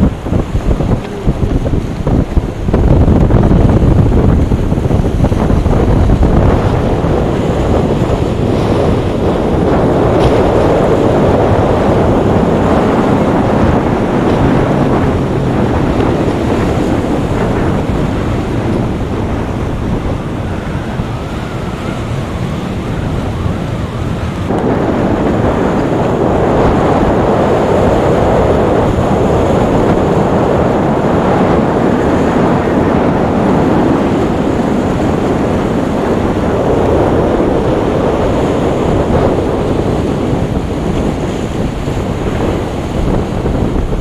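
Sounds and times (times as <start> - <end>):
ocean waves: 0.0 - 44.0
wind buffeting microphone: 0.0 - 44.0.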